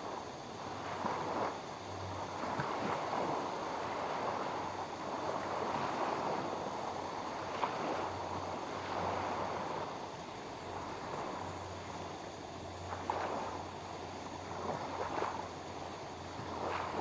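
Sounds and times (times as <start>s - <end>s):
lake waves washing on shore: 0.0s - 17.0s.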